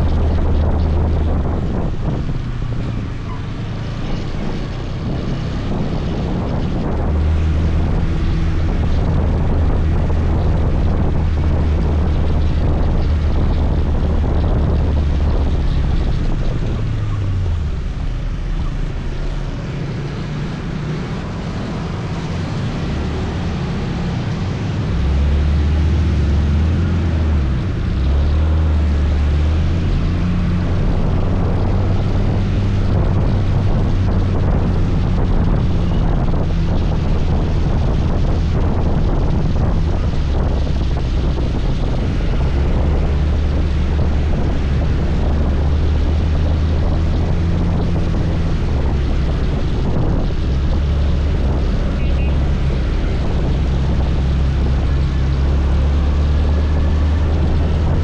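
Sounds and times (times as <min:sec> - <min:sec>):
road noise: 0:00.0 - 0:58.0
wind noise on microphone: 0:00.0 - 0:58.0.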